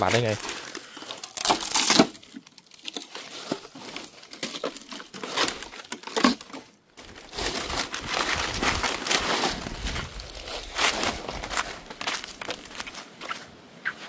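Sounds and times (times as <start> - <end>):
dry sticks snapping and crunching: 0.0 - 13.0.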